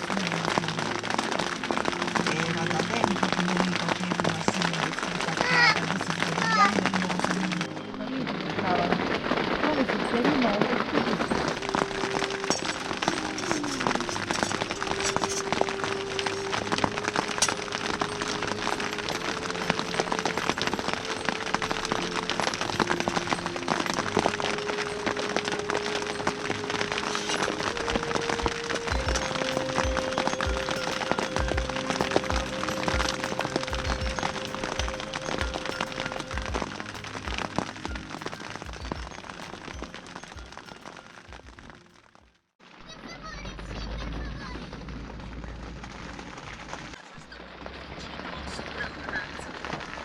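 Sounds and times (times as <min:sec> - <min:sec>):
heavy rain on hard surface: 0:00.0 - 0:42.8, 0:43.6 - 0:50.0.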